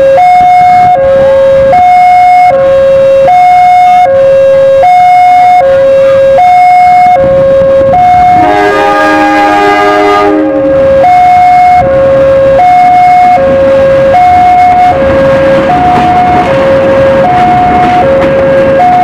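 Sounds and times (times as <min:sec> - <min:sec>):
diesel locomotive horn: 0:00.0 - 0:19.0
two-tone crossing alarm: 0:00.0 - 0:19.0.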